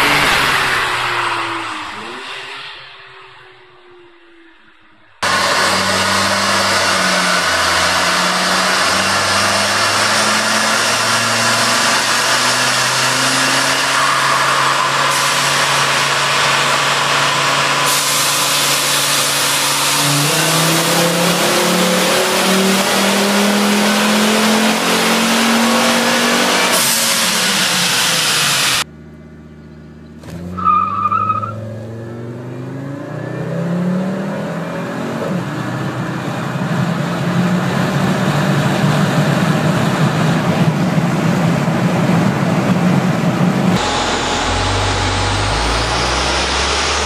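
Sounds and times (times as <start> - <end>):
car engine under load: 0.0 - 47.0.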